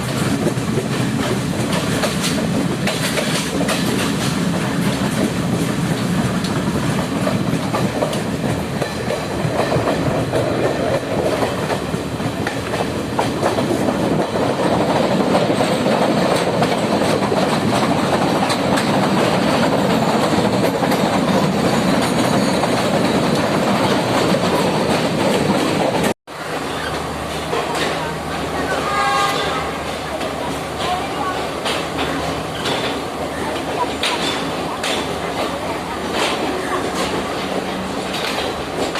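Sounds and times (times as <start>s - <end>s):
train wheels clattering over rails: 0.0s - 38.9s.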